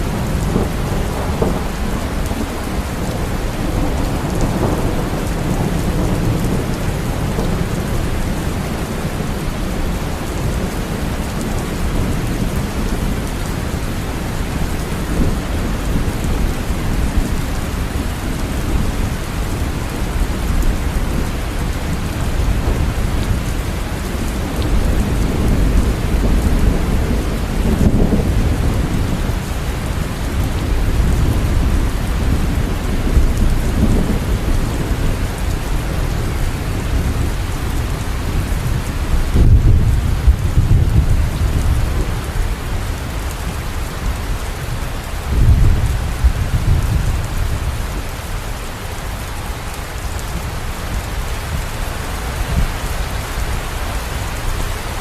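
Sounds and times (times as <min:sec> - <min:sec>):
steady rain falling: 0:00.0 - 0:55.0
thunder rumbling: 0:00.0 - 0:55.0.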